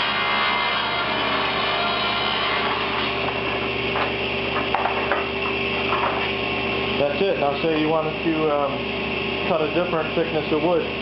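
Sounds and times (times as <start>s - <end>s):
table saw cutting wood: 0.0s - 11.0s.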